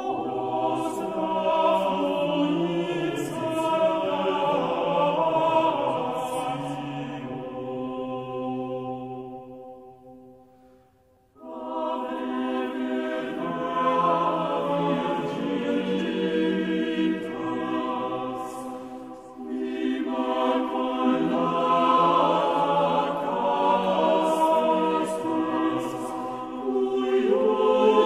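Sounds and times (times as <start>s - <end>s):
monks choir chanting: 0.0s - 10.4s, 11.4s - 28.0s.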